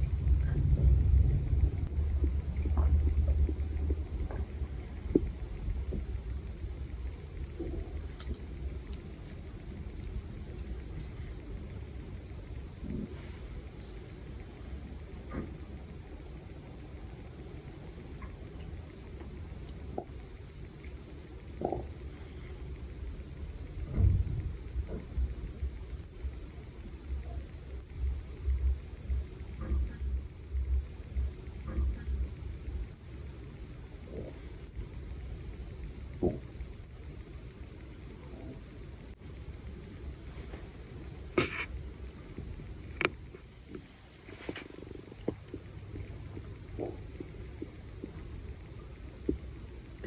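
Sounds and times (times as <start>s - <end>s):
low rumble: 0.0s - 50.0s
faint scattered clicks: 1.8s - 50.0s.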